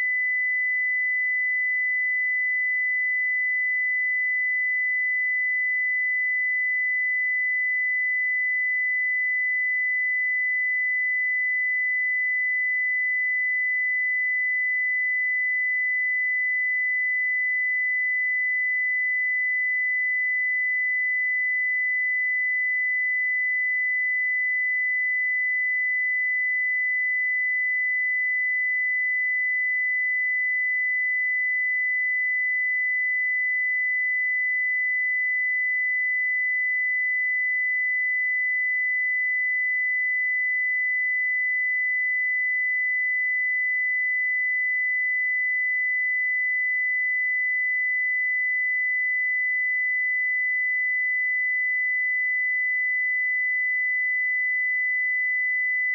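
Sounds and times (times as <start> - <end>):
high-pitched sine test tone: 0.0 - 55.9.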